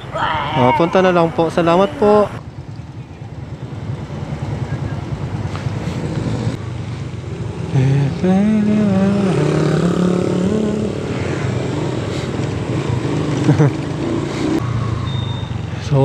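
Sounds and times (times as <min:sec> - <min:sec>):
motorcycle engine running: 0:02.4 - 0:15.8.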